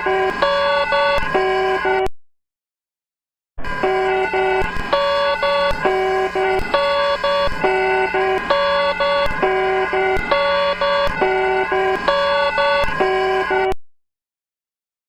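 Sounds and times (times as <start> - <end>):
electronic alarm tones: 0.0 - 2.1, 3.6 - 13.8.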